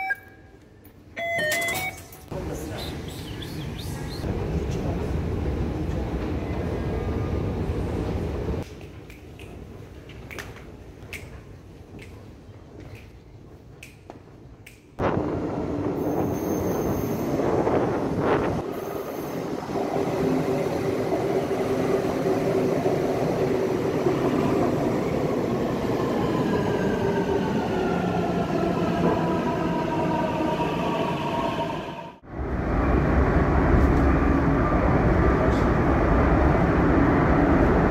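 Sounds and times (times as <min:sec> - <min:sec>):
train rush and rumble: 0:02.3 - 0:37.9.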